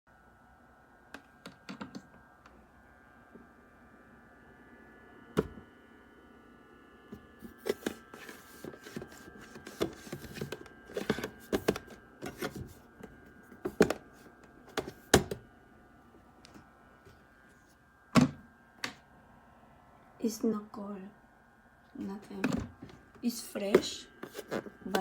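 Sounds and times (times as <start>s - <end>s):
faint steady whine: 0.1s - 25.0s.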